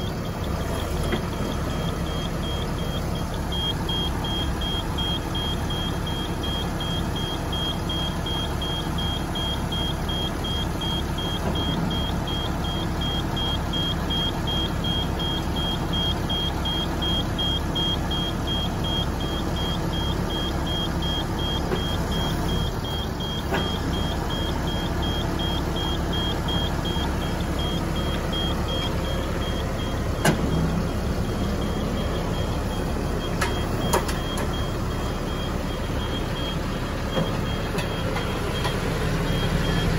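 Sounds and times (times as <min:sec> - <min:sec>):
truck diesel engine running: 0:00.0 - 0:39.9
short high warning beeps: 0:01.4 - 0:39.9.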